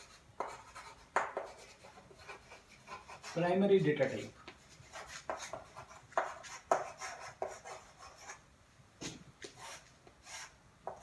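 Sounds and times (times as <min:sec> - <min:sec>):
chalk scratching on chalkboard: 0:00.0 - 0:08.4, 0:09.5 - 0:11.0.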